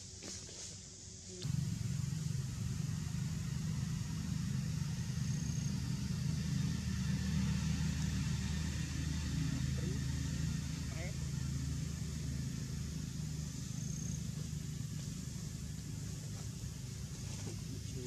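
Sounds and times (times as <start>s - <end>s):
engine running with low rumble: 0.0s - 18.0s.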